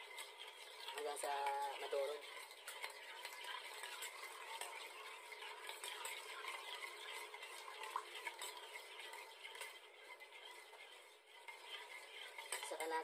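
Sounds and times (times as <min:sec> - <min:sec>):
spoon scraping saucepan: 0:00.0 - 0:13.0.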